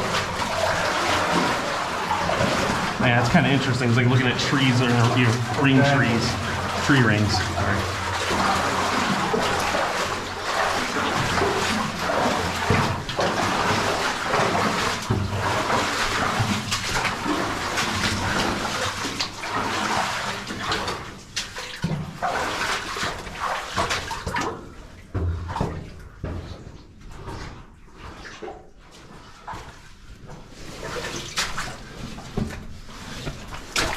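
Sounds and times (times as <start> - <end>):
water running and splashing: 0.0 - 26.7, 27.3 - 33.9.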